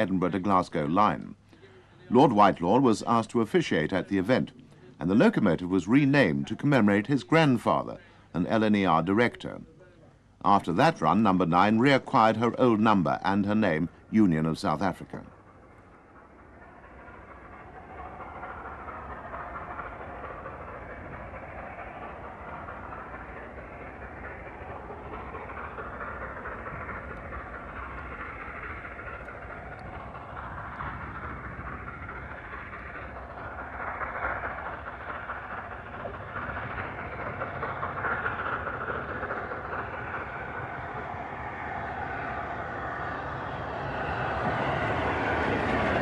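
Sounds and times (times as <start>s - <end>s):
steam locomotive exhaust and running: 0.0s - 46.0s.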